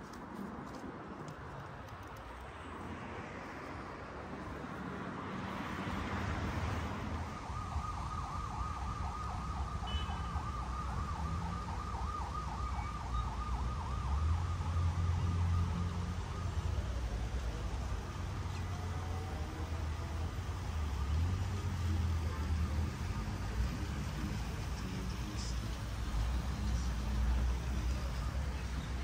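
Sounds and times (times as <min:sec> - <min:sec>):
city traffic rumble: 0:00.0 - 0:29.0
distant warbling siren: 0:05.1 - 0:29.0.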